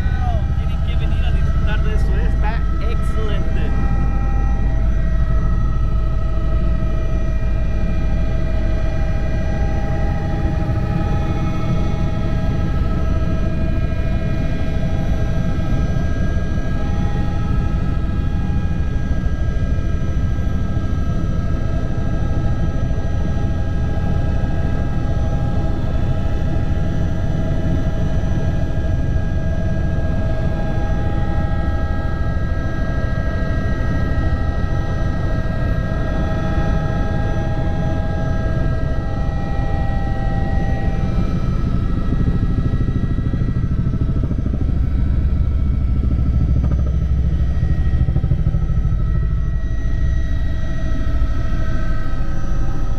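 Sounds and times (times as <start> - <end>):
turbine whining tones: 0.0 - 19.8, 30.2 - 52.9
helicopter rotor beat: 0.0 - 52.9.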